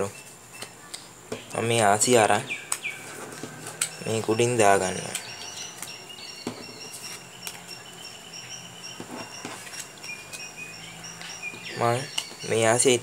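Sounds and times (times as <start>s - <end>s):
high-pitched chirping: 0.0s - 13.0s.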